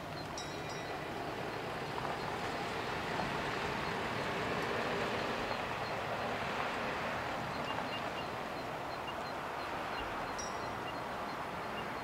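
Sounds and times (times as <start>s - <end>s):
distant jet engines at takeoff: 0.0s - 12.0s.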